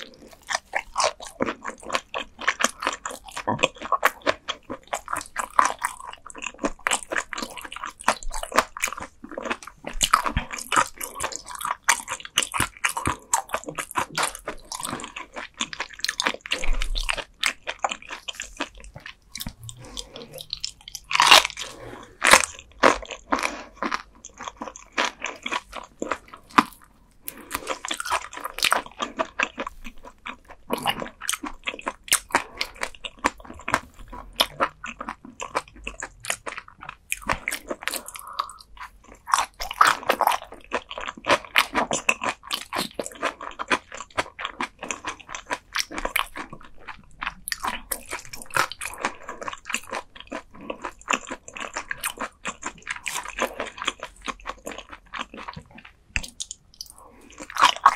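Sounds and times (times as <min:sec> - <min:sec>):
chewing and crunching bones: 0:00.0 - 0:57.9.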